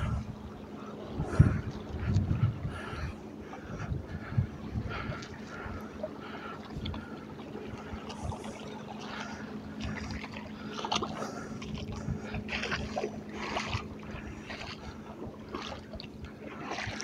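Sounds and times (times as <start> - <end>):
small waves lapping and splashing: 0.0 - 17.0.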